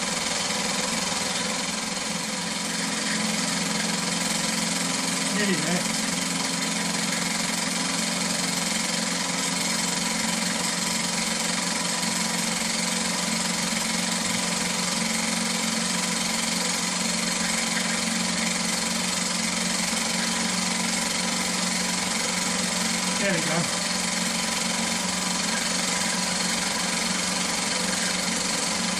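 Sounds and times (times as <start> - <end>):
toy steam engines hissing: 0.0 - 28.9.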